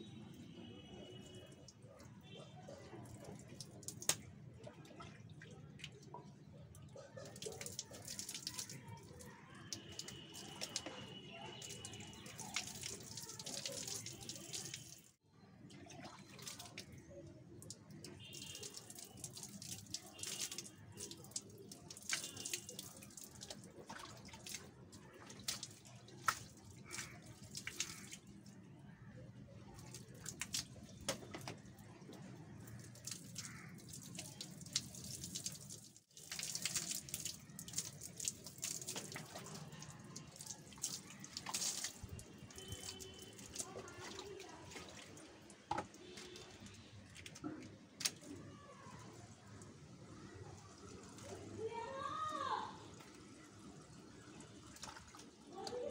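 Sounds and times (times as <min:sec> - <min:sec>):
water pouring over hair: 0:01.0 - 0:55.9
water splashing on concrete floor: 0:01.0 - 0:55.9.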